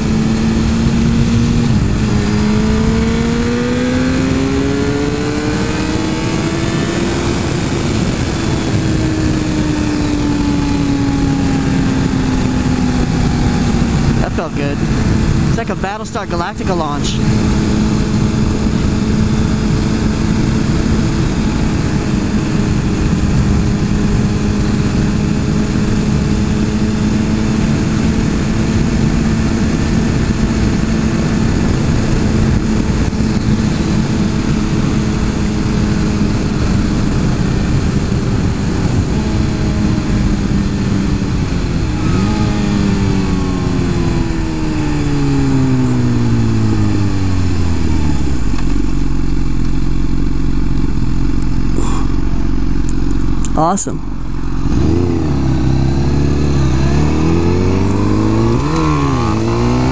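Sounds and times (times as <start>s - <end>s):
motorcycle engine at high revs: 0.0s - 59.9s
wind noise: 0.0s - 59.9s.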